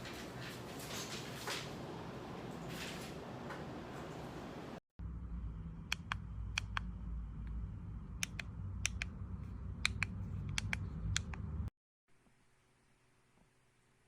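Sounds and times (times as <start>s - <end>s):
low steady hum: 2.0s - 14.0s.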